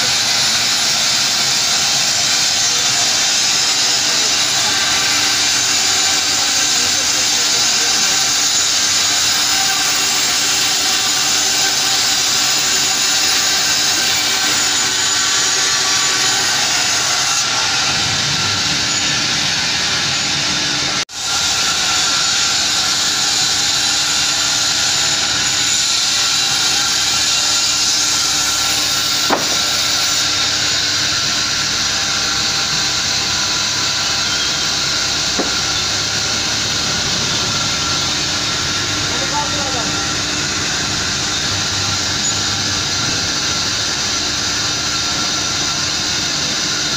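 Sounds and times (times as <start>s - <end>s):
band saw hiss and whine: 0.0s - 46.9s.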